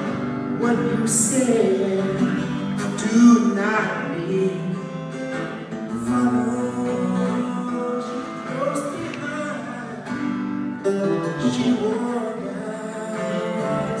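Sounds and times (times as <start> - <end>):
acoustic guitar: 0.0 - 14.0
man singing: 0.0 - 14.0.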